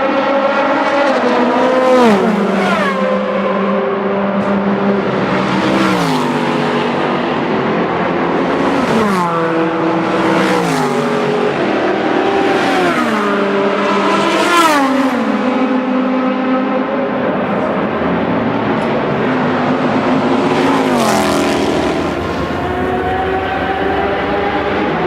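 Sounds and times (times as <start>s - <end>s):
racing cars passing at speed: 0.0s - 25.0s.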